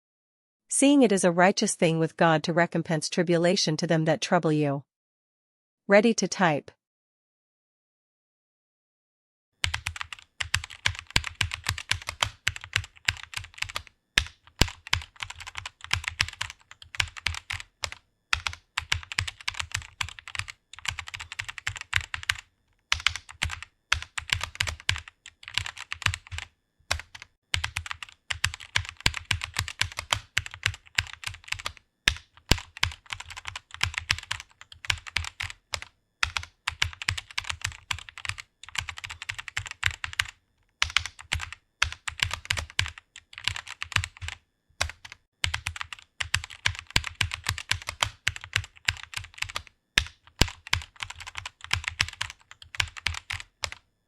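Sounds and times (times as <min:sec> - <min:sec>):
fast keyboard typing: 0:09.6 - 0:53.9.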